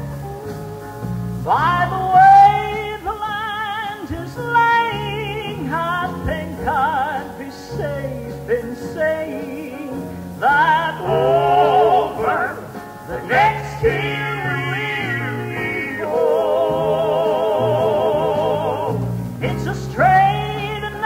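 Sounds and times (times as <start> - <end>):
band with steady bass line: 0.0 - 21.0
man singing with vibrato: 1.5 - 21.0.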